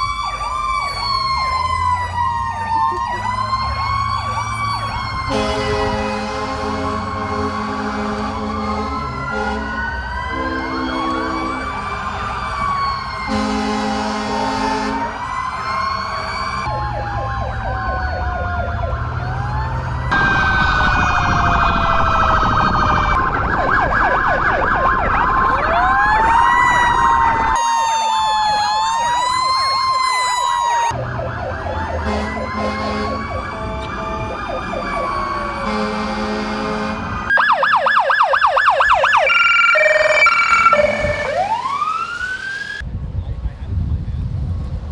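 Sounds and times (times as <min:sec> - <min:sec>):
siren yelp: 0:00.0 - 0:42.8
emergency vehicle sirens wailing: 0:00.0 - 0:42.9.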